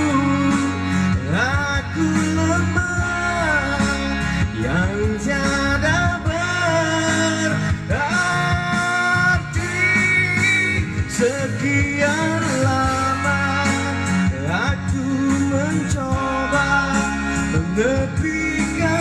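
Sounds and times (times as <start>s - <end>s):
bass and guitar accompaniment: 0.0s - 19.0s.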